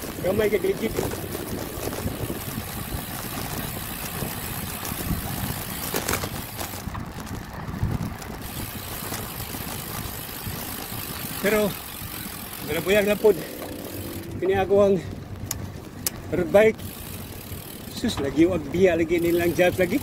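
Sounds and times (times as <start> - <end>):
bike road noise: 0.0 - 20.0
wind rushing over microphone: 0.0 - 20.0.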